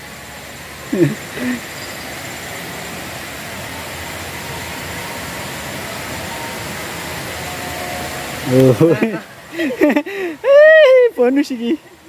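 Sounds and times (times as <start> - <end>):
water rushing over weir: 0.0 - 12.0.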